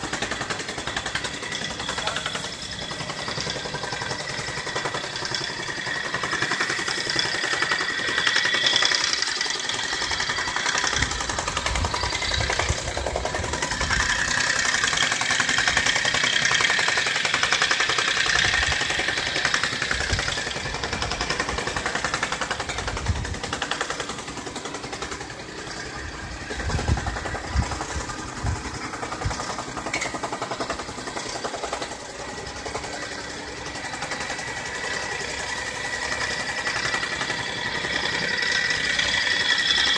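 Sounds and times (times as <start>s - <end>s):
machine rattling: 0.0s - 39.9s
mini excavator engine: 0.0s - 39.9s.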